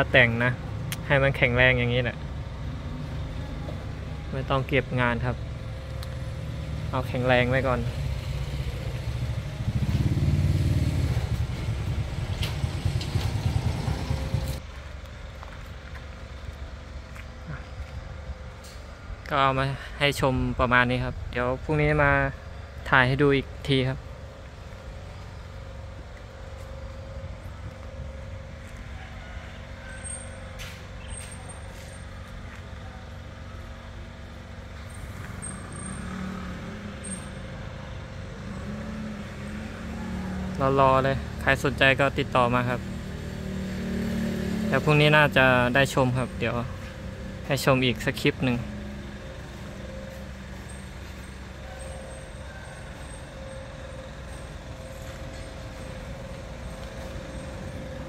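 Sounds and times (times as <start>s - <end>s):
harvester engine rumbling: 0.0s - 58.0s.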